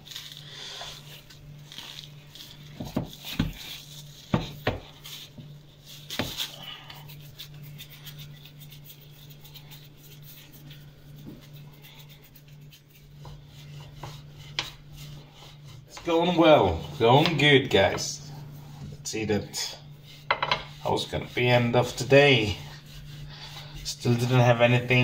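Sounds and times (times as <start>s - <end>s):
hands kneading dough in plastic: 0.0s - 25.0s
steady low hum: 0.0s - 25.0s.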